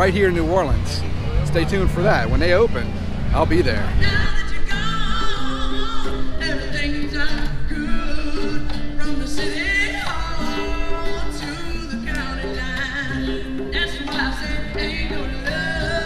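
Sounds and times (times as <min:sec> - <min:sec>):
live band playing: 0:00.0 - 0:16.0
person singing wavering notes: 0:01.0 - 0:16.0.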